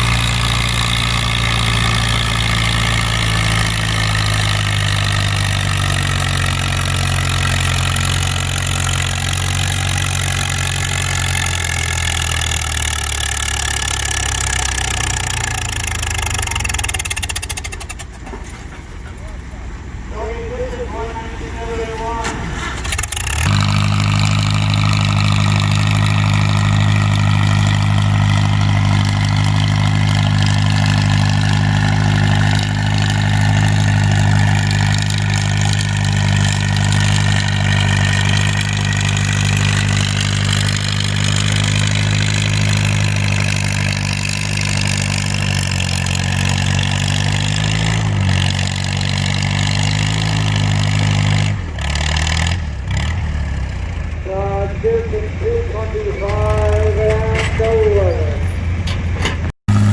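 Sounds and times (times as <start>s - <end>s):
tractor engine working hard: 0.0s - 59.9s.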